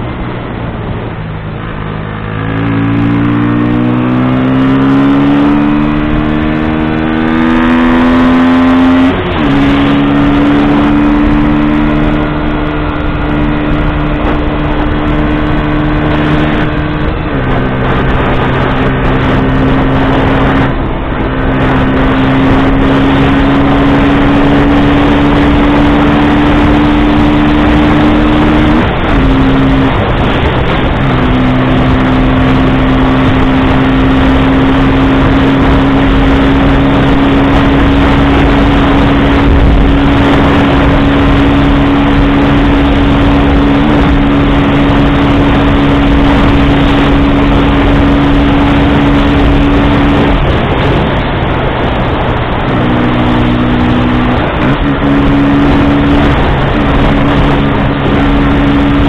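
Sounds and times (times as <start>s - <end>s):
motorcycle engine cruising: 0.0s - 59.0s
road noise: 0.0s - 59.0s
wind rushing: 0.0s - 59.0s.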